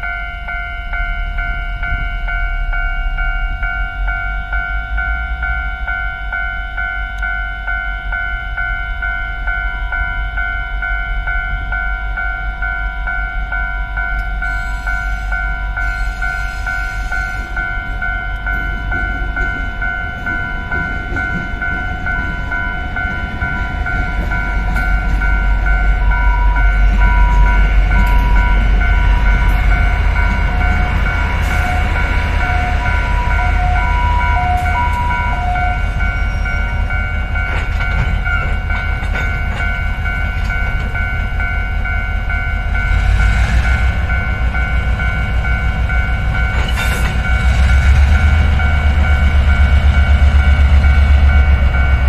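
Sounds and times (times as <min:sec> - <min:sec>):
crossing signal repeating tones: 0:00.0 - 0:52.0
locomotive rumbling past: 0:08.9 - 0:52.0.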